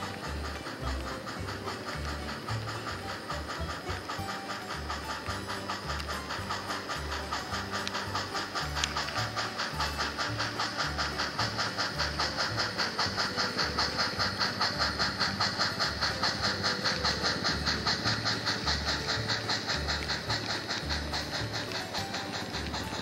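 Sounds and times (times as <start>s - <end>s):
model steam locomotive chuffs: 0.0s - 23.0s.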